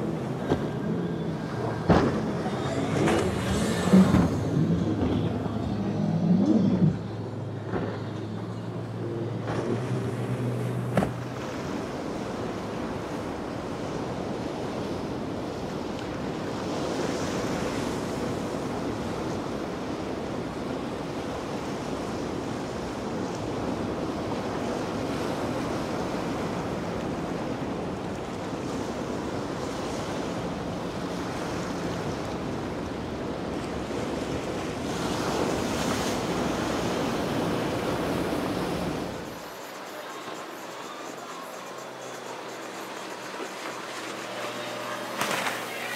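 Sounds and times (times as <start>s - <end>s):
ocean waves washing: 0.0s - 45.9s.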